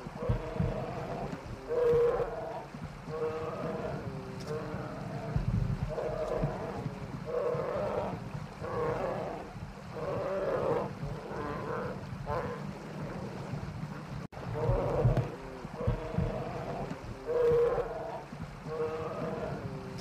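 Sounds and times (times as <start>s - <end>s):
bear cubs humming: 0.0s - 13.7s, 14.4s - 20.0s.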